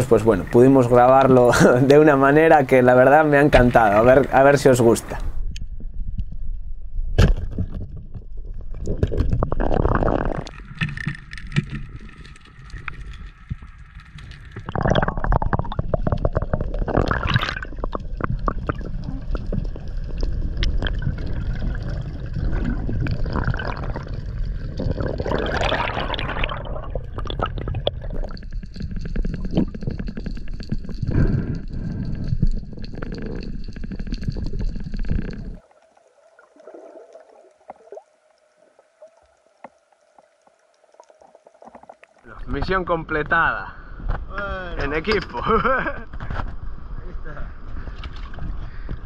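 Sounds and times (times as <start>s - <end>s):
water gurgling and bubbling: 0.0s - 5.4s, 7.4s - 42.6s
underwater rumble: 0.0s - 49.0s.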